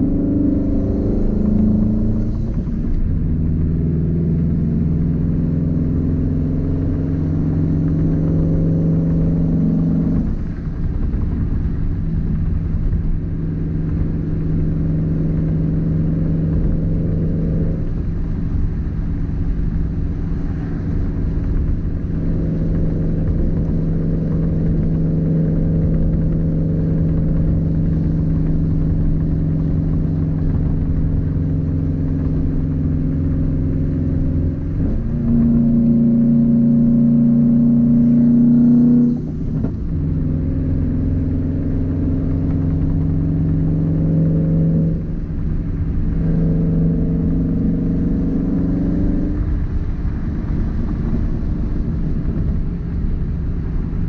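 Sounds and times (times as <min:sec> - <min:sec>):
car engine drone in cabin: 0:00.0 - 0:54.0.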